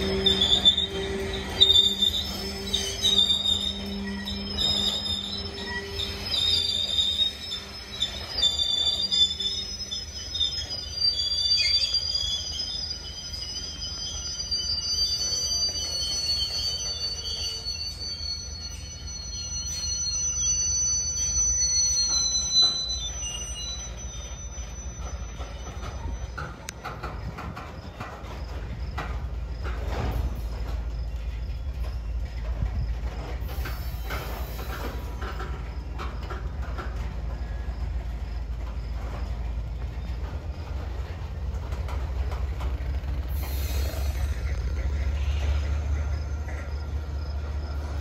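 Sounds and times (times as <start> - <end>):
low train rumble: 0.0 - 48.0
train wheels squealing on rails: 0.0 - 48.0.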